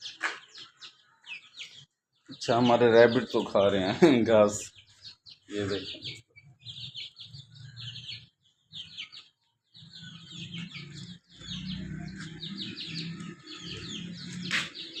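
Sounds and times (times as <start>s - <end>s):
small birds twittering: 0.0s - 15.0s.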